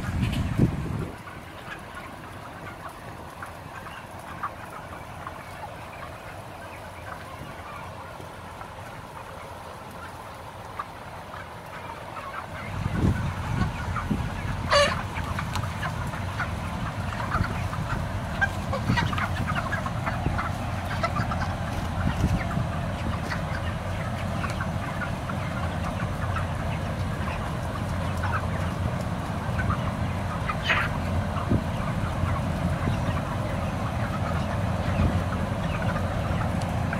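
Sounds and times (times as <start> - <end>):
exhaust fans humming: 0.0 - 6.5, 12.5 - 36.9
chickens clucking and chirping: 0.0 - 36.9.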